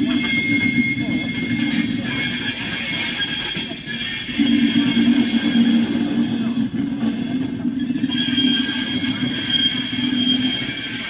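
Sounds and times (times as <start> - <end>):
train wheels rolling on rails: 0.0 - 11.0
wheels squealing against rails: 0.0 - 11.0.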